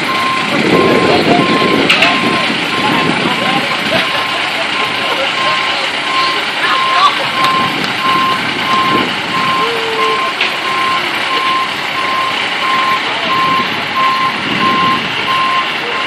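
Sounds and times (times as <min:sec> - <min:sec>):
diesel engine running: 0:00.0 - 0:16.0
truck reverse beeper: 0:00.0 - 0:16.0.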